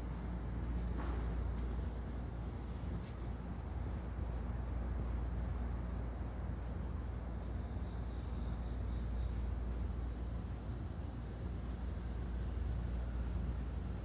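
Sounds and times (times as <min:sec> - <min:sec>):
crickets trilling: 0:00.0 - 0:14.0
lower insect trill: 0:00.0 - 0:14.0.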